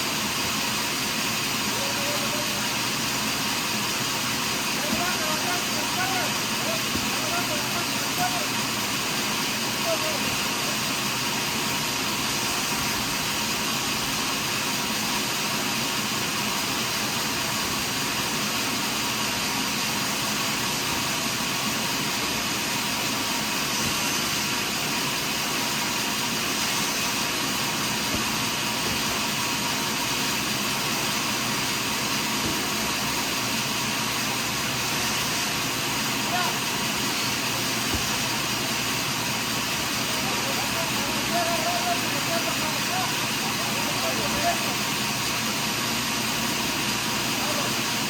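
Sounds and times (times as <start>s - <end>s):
sawmill saw cutting log: 0.0s - 48.0s.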